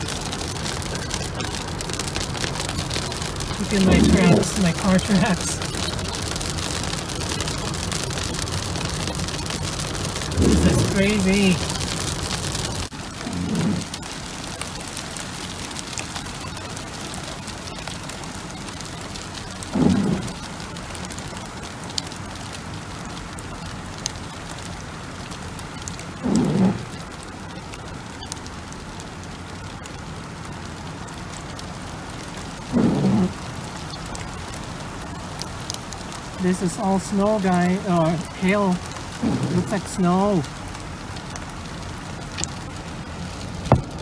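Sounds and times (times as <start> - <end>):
rain and hail pattering on car: 0.0 - 44.0.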